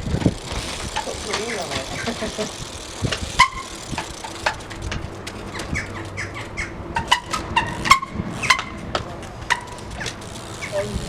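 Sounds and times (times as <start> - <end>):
bike brakes squealing: 0.0 - 4.8, 5.5 - 8.8, 9.5 - 11.0
bike clicks and knocks: 0.0 - 11.0.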